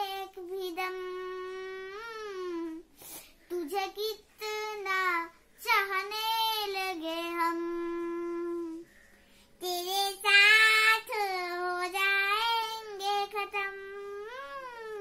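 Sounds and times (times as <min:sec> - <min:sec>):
girl singing: 0:00.0 - 0:08.9, 0:09.6 - 0:15.0.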